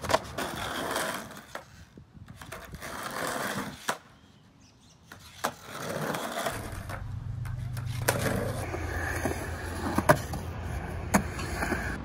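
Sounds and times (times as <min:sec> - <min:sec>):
skateboard clacking on ground: 0:00.0 - 0:04.1, 0:05.1 - 0:12.0
skateboard wheels rolling on concrete: 0:00.0 - 0:12.0.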